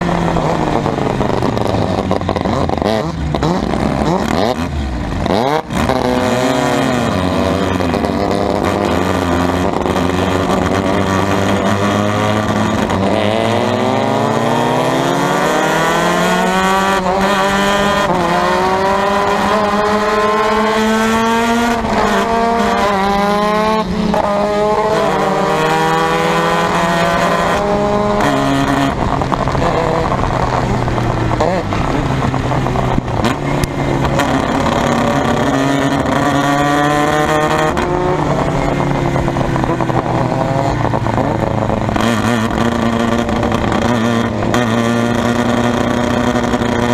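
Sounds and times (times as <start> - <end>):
rotary race car engine revving: 0.0 - 46.9.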